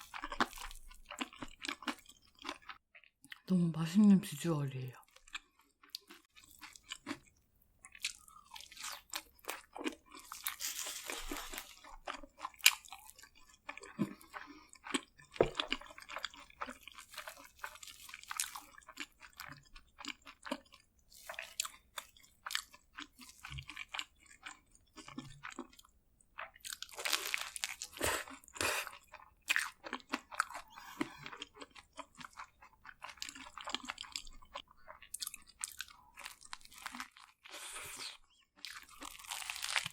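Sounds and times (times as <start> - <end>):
crunchy bites and chewing: 0.0 - 3.4, 5.1 - 39.9.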